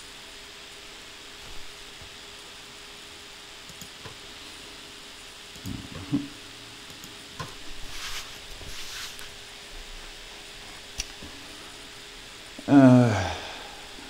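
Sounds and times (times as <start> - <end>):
microphone hiss: 0.0 - 14.0.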